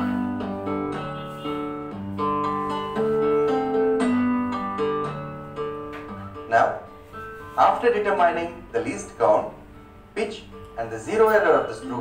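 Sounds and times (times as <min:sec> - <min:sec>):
acoustic guitar melody: 0:00.0 - 0:12.0.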